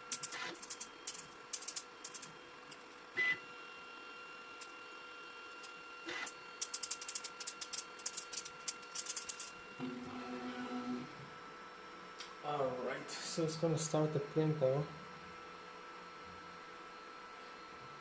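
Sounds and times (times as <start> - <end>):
printer high whine: 0.0 - 18.0.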